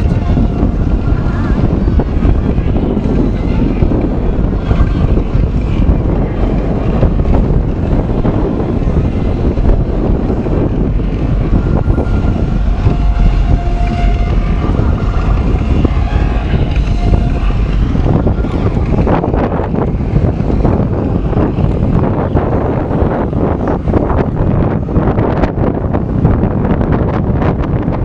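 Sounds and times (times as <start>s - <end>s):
boat engine: 0.0s - 28.0s
wind buffeting microphone: 0.0s - 28.0s.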